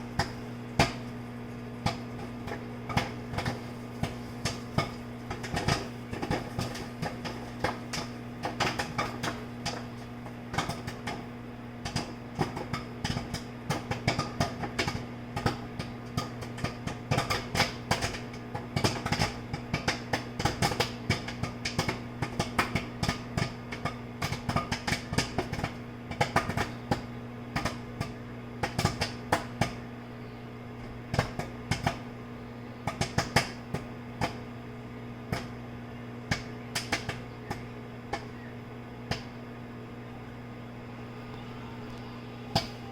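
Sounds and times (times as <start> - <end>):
microwave oven hum: 0.0 - 42.9
popcorn popping: 0.0 - 42.9.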